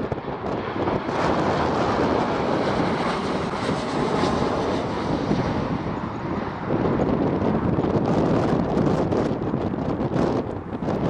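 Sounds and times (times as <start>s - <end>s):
jet engines roaring overhead: 0.0s - 11.0s.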